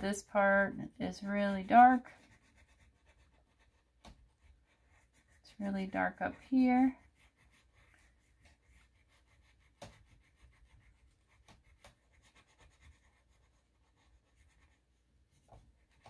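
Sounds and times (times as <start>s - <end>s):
pencil scratching on paper: 0.0s - 16.0s.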